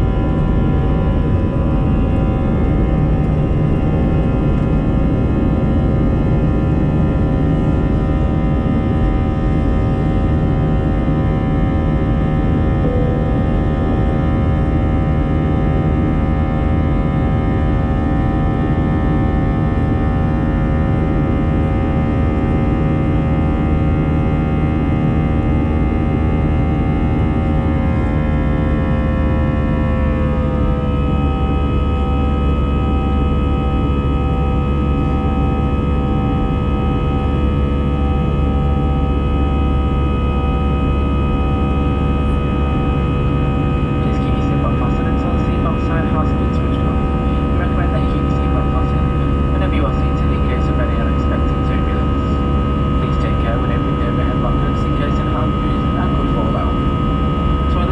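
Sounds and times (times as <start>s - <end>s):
jet engines humming: 0.0s - 57.9s.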